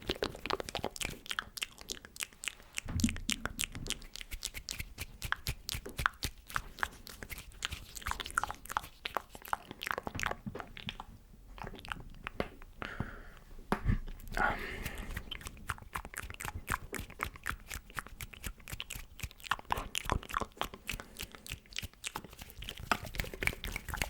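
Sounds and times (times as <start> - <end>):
wet mouth clicks and smacks: 0.0 - 12.8, 14.1 - 24.0.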